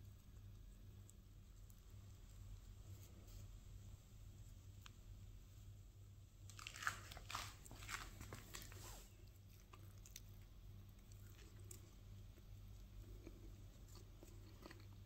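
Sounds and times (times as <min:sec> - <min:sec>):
flatbread crust crackling: 0:00.0 - 0:15.0.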